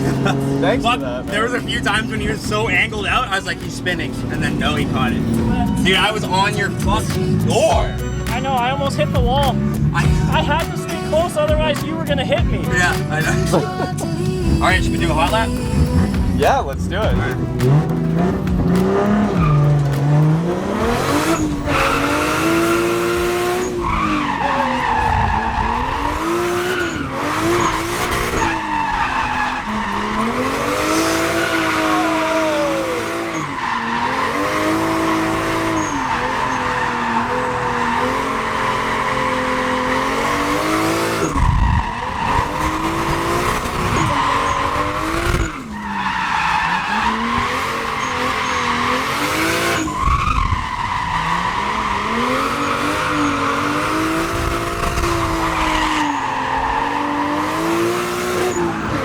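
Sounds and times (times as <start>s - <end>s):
car engine revving hard: 0.0s - 59.0s
tyres squealing: 0.0s - 59.0s.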